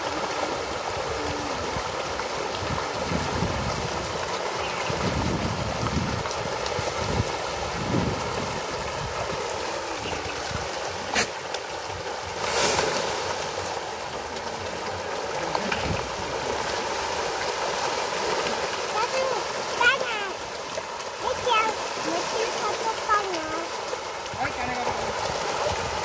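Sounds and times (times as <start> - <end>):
fish splashing: 0.0 - 26.0
rush of water: 0.0 - 26.0.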